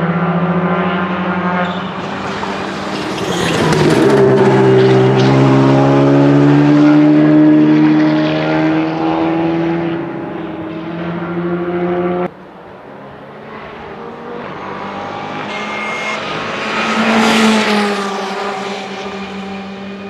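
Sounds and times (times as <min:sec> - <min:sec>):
quieter car engine: 0:00.0 - 0:20.0
rally car engine full throttle: 0:00.0 - 0:20.0.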